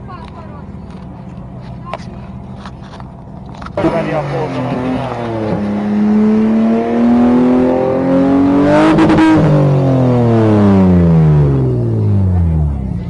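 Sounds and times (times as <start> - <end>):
car engine revving: 2.2 - 13.0.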